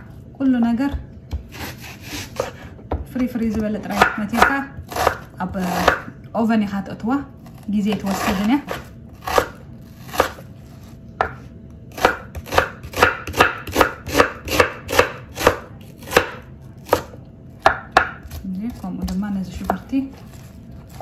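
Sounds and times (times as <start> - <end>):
knife chopping on wooden board: 0.9 - 6.1, 8.0 - 10.4, 11.2 - 21.0.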